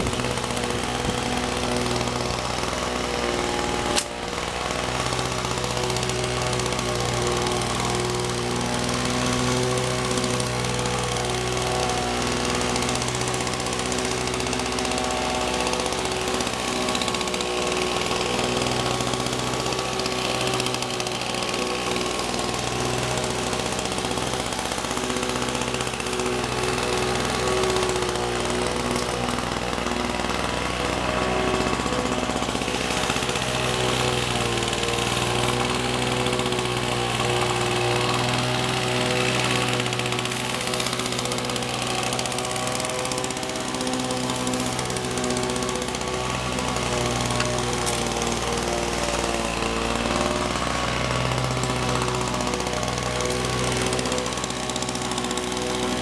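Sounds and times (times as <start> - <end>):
lawn mower running: 0.0 - 56.0.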